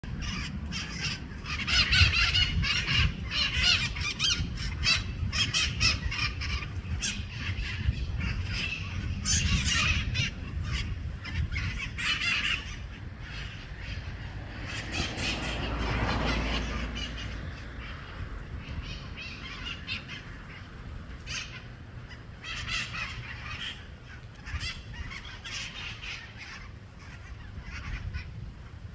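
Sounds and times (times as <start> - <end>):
parrots squawking and screeching: 0.1 - 28.3.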